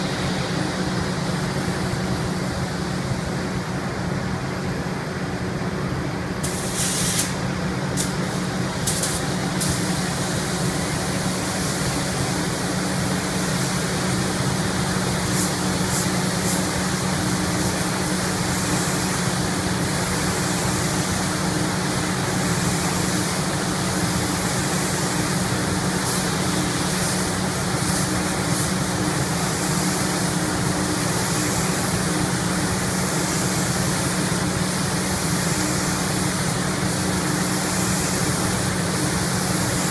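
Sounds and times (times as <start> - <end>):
spray gun hissing: 6.4 - 39.9.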